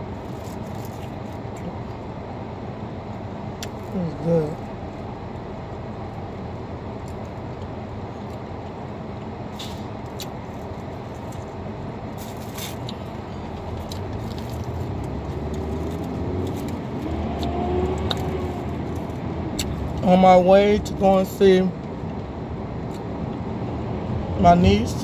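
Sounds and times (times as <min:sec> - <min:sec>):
car cabin low rumble: 0:00.0 - 0:25.0.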